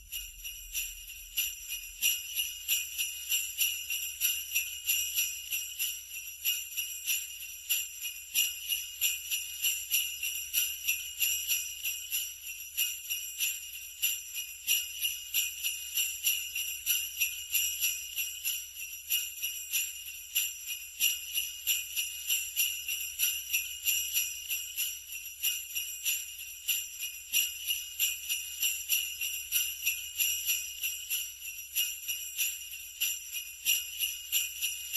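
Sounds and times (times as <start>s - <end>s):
sleigh bells jingling: 0.0s - 34.9s.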